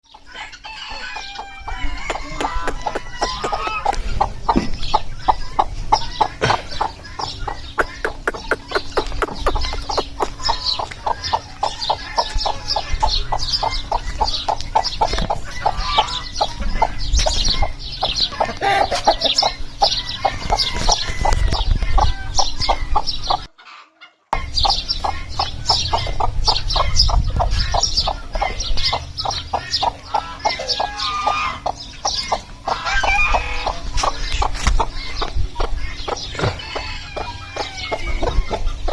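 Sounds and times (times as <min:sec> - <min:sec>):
hens clucking: 0:00.0 - 0:38.9.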